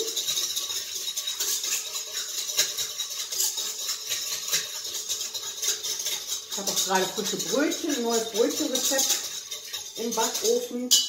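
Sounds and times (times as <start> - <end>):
whisk scraping metal bowl: 0.0 - 11.0.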